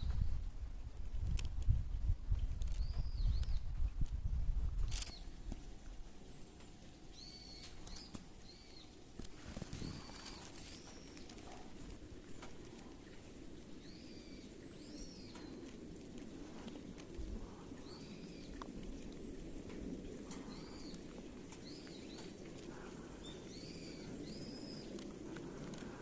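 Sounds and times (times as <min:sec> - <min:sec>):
birds chirping: 0:04.9 - 0:26.0.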